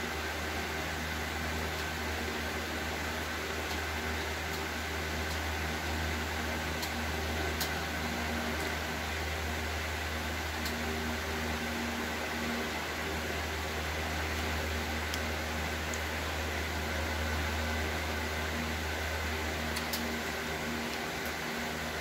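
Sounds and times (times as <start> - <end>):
machine hum with hiss: 0.0 - 22.0.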